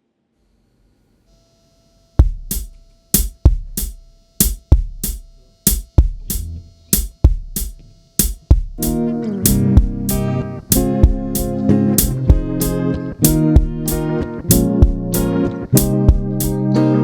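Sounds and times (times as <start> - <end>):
drum beat kick and snare: 2.2 - 16.7.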